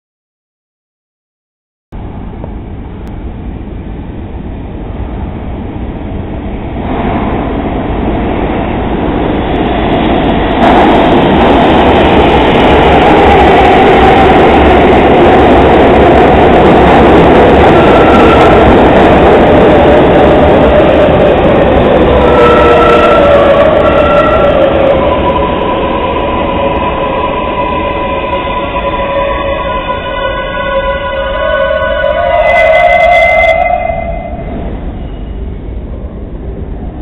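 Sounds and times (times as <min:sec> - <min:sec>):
subway train passing through station: 0:02.0 - 0:37.0.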